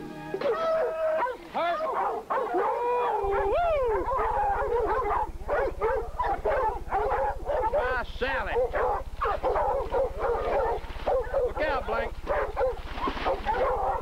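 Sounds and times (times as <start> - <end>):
low electrical buzz: 0.0 - 14.0
dogs barking and howling: 0.3 - 14.0.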